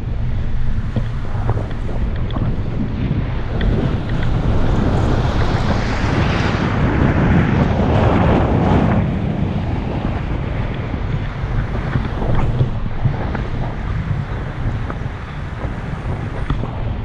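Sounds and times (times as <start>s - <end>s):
road and tyre rumble: 0.0s - 17.0s
wind buffeting microphone: 0.0s - 17.0s.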